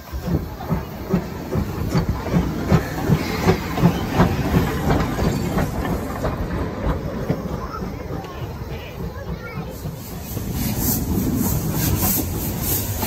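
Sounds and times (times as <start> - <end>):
steam hiss: 0.0 - 13.0
steam train running: 0.0 - 13.0.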